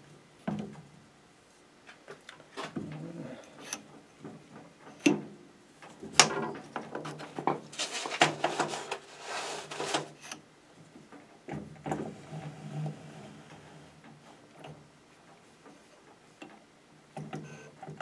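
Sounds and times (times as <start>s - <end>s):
noisy hiss: 0.0s - 18.0s.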